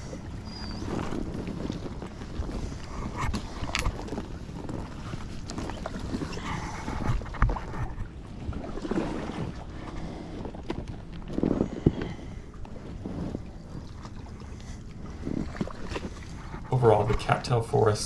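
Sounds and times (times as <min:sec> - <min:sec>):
kayak paddle splashing through water: 0:00.0 - 0:17.3.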